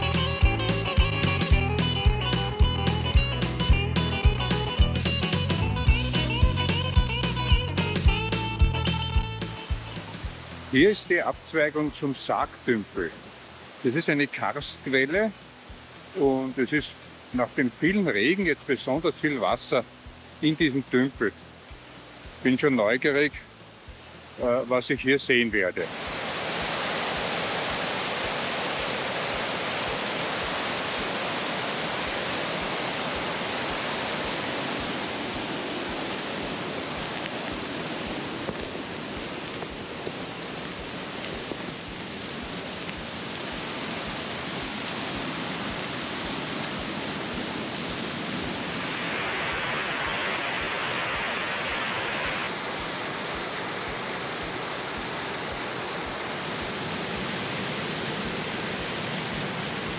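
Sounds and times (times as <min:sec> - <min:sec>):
white water rushing down stream: 0:00.0 - 0:59.9.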